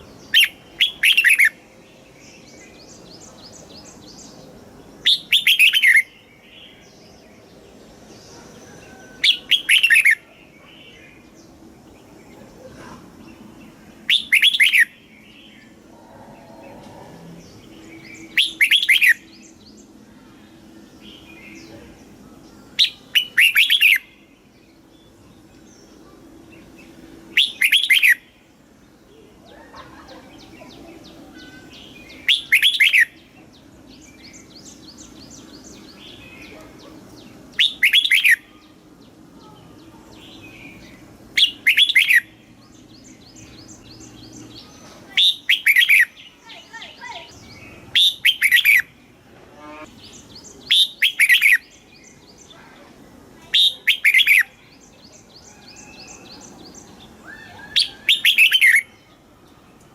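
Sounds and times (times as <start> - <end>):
bulbul singing: 0.0 - 8.4, 9.2 - 12.6, 13.2 - 15.9, 17.4 - 49.0, 49.6 - 52.7, 53.4 - 59.2.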